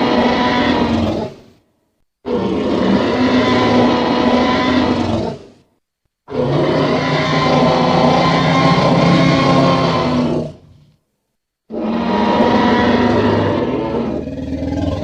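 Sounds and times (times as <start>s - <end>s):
dinosaur roar: 0.0s - 1.4s, 2.2s - 5.5s, 6.3s - 10.7s, 11.7s - 15.0s.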